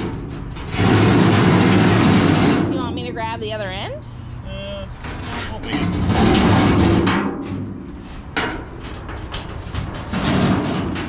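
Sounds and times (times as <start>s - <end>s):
sheet steel banging: 0.0s - 11.0s.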